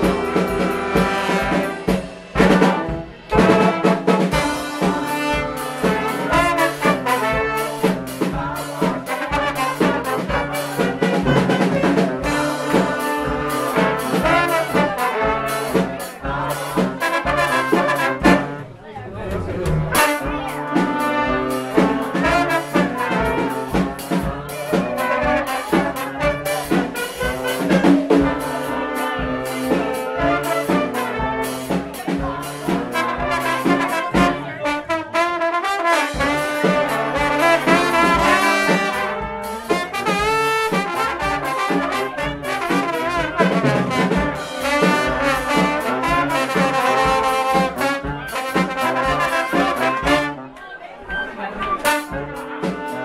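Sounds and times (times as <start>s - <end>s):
drum beat: 0.0s - 18.6s, 19.3s - 50.6s, 51.7s - 53.0s
brass band playing: 0.0s - 53.0s.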